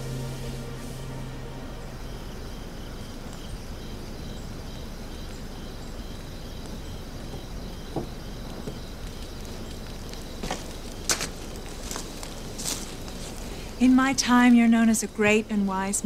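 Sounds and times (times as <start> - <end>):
low background hiss: 0.0 - 7.7, 9.0 - 16.0
crickets chirping: 0.0 - 16.0.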